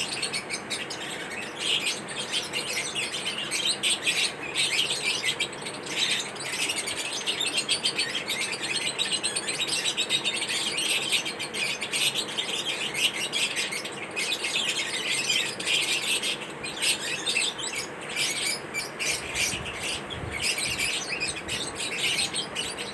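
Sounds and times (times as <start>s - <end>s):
lovebirds chirping: 0.0s - 22.9s.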